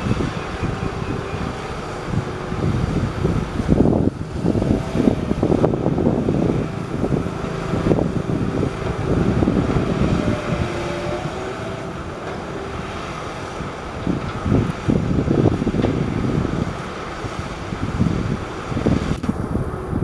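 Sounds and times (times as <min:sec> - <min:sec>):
heavy diesel machinery rumbling: 0:00.0 - 0:20.0
wind buffeting microphone: 0:00.0 - 0:20.0.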